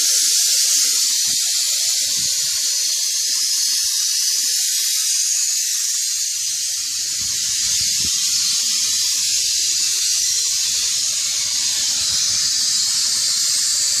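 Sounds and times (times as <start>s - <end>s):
loud high hiss: 0.0s - 14.0s.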